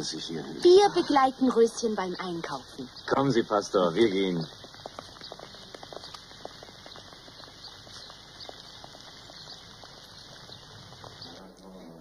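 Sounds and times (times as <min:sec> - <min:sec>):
footsteps on cobblestones: 0:00.0 - 0:11.8.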